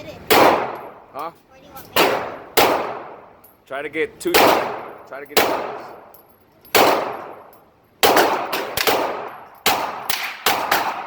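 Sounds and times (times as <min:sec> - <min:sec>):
gunshots with ringing echo: 0:00.3 - 0:01.1, 0:02.0 - 0:03.4, 0:04.3 - 0:11.0.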